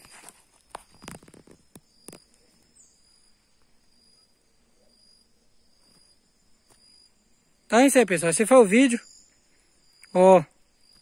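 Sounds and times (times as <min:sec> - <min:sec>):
high insect call pulsing: 0:00.0 - 0:11.0.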